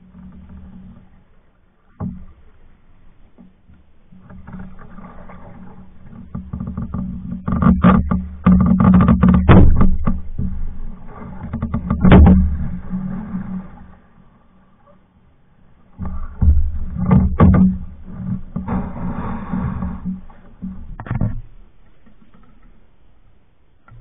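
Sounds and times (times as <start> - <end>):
paddle knocking canoe hull: 0.0 - 14.1, 15.9 - 23.2
steady low hum: 0.0 - 24.0.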